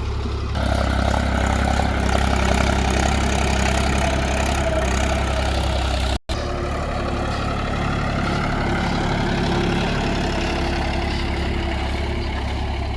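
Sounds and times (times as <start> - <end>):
tractor diesel engine idling: 0.0 - 12.9.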